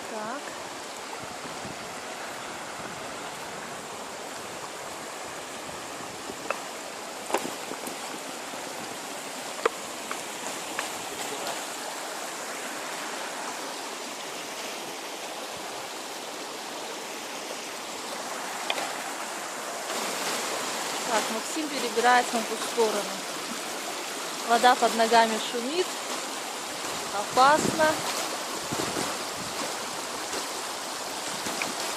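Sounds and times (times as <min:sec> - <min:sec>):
river water rushing over rocks: 0:00.0 - 0:31.9.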